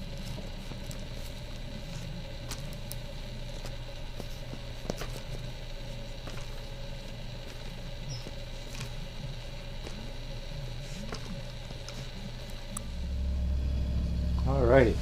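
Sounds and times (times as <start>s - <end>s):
plastic film crinkling and ticking: 0.0s - 12.9s
steady low hum: 0.0s - 15.0s.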